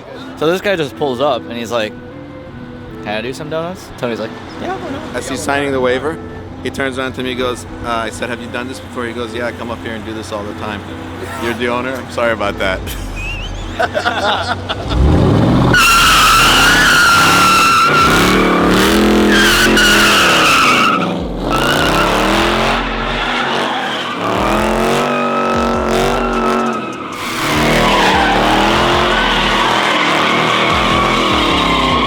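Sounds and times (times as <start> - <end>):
tires squealing: 0.0 - 32.0
car engine revving: 1.6 - 32.0.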